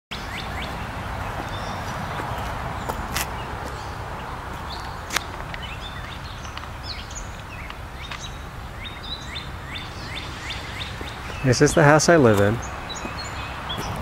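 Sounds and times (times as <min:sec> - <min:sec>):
small songbirds chirping: 0:00.1 - 0:14.0
steady low rumble: 0:00.2 - 0:14.0.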